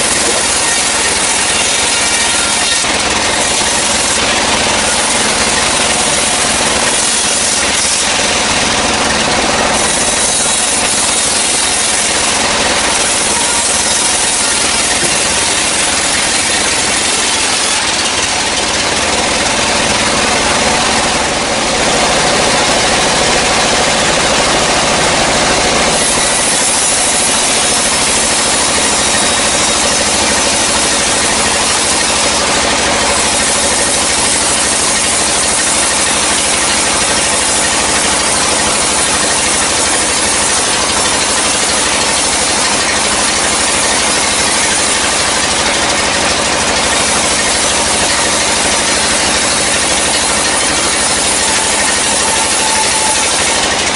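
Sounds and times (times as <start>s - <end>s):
band saw cutting log: 0.0s - 53.9s.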